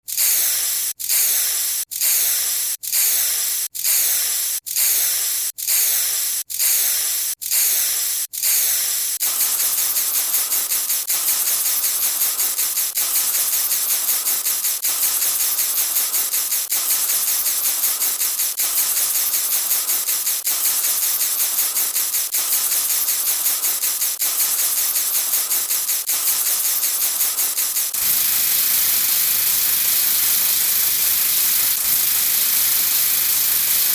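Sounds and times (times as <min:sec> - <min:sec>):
spray hiss: 0:00.2 - 0:33.9.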